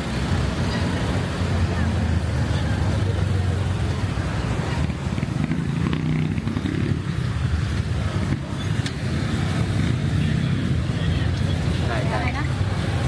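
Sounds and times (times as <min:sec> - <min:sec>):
street traffic: 0:00.0 - 0:13.0
motorcycle engine running: 0:01.6 - 0:13.0.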